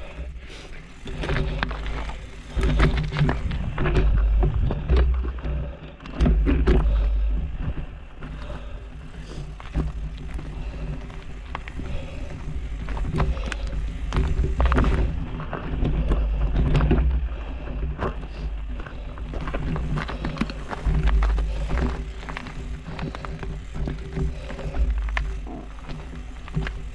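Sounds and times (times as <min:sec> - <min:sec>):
bike rattling over rocks: 0:00.0 - 0:26.9.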